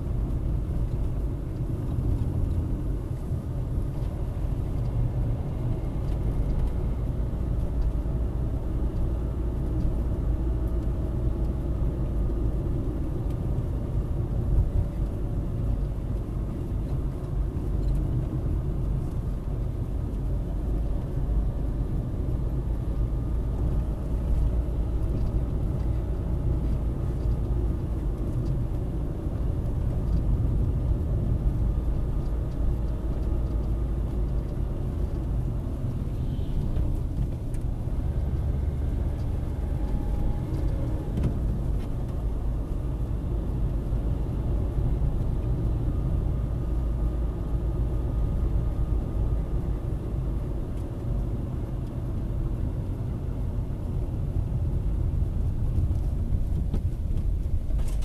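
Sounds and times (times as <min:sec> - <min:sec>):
faint engine hum: 0:00.0 - 0:58.0
tyre and engine rumble in car: 0:00.0 - 0:58.0.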